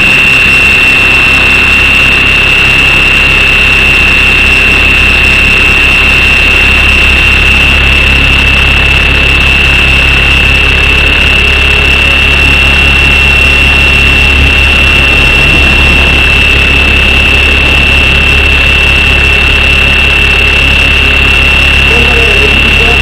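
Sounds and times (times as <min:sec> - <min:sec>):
high-pitched motor whine: 0:00.0 - 0:23.0
rotor rumble: 0:00.0 - 0:23.0.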